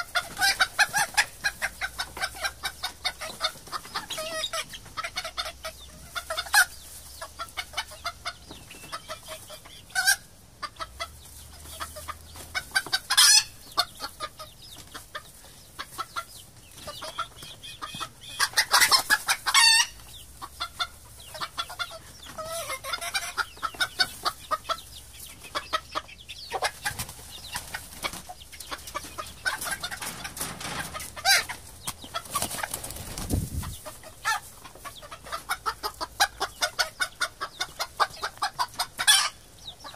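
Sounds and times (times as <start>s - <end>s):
chickens clucking: 0.0s - 39.9s
drawn-out chicken calls: 0.0s - 39.9s.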